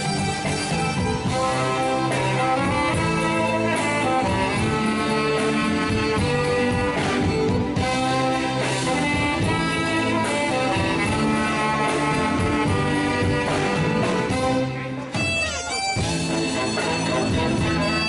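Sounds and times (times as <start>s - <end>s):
horn melody: 0.0s - 18.0s
live band playing pop song: 0.0s - 18.0s.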